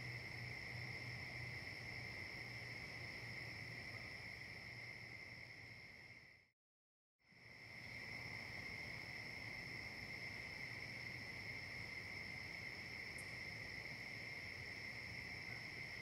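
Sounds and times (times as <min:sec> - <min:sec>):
crickets chirring: 0:00.0 - 0:06.5, 0:07.3 - 0:16.0.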